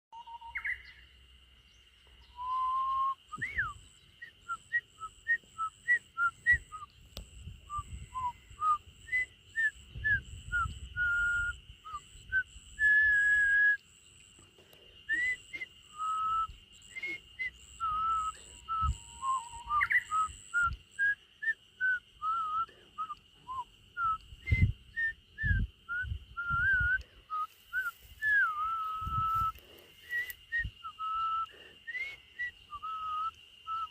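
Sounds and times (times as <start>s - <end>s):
person whistling a melody: 2.4s - 6.8s, 7.7s - 13.8s, 15.1s - 33.9s.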